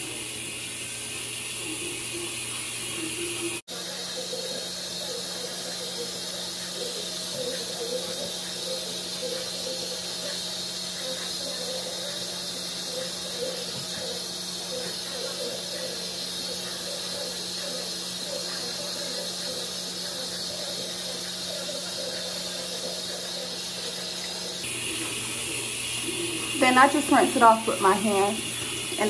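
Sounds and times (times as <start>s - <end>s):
water running from a tap: 0.0s - 29.0s.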